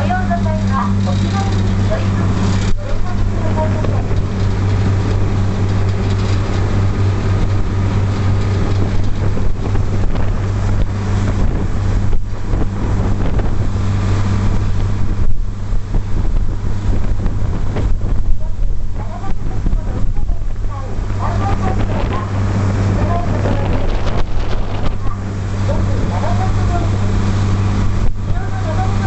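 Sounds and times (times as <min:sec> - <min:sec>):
ferry engine droning: 0:00.0 - 0:29.0
water rushing: 0:00.0 - 0:29.0
wind buffeting microphone: 0:00.0 - 0:29.0.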